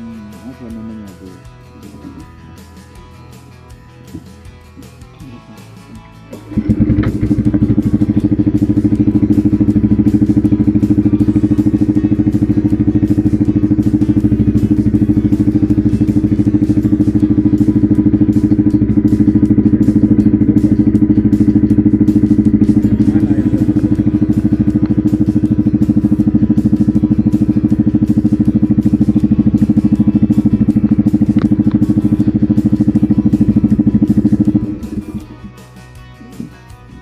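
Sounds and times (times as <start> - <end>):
motorboat engine chugging: 0.0 - 36.6.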